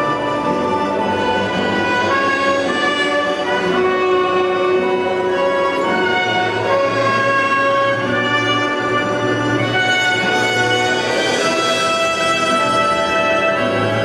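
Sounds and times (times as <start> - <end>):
orchestral strings and brass: 0.0 - 14.0.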